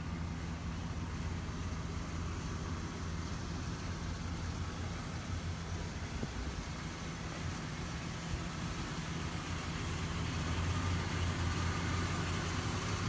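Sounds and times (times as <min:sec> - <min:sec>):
suv engine idling: 0:00.0 - 0:13.0.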